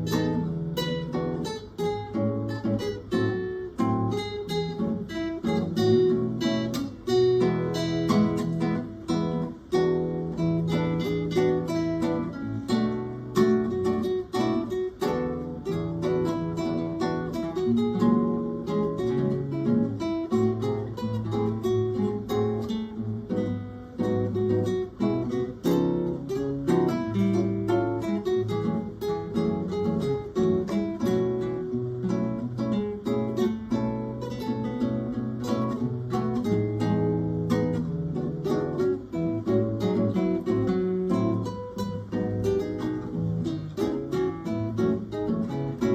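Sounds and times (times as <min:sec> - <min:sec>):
acoustic guitars playing: 0:00.0 - 0:45.9.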